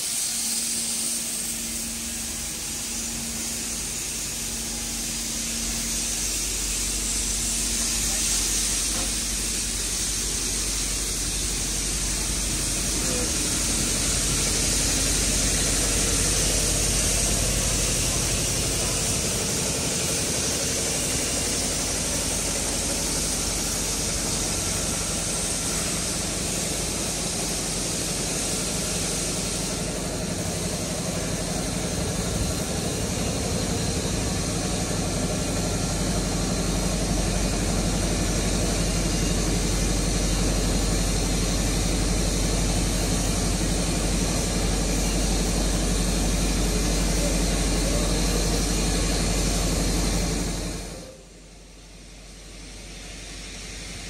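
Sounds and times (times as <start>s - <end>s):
steam hissing: 0.0s - 54.0s
locomotive low rumble: 0.1s - 54.0s.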